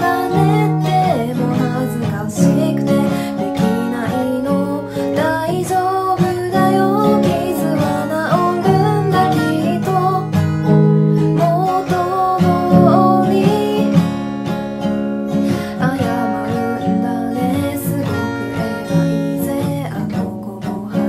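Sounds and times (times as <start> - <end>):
woman singing: 0.0 - 14.6, 15.4 - 21.0
acoustic guitar strumming: 0.0 - 21.0.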